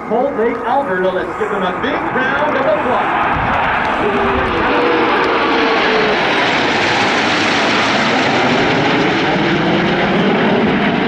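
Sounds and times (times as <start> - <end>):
aircraft engine passing overhead: 0.0 - 11.0.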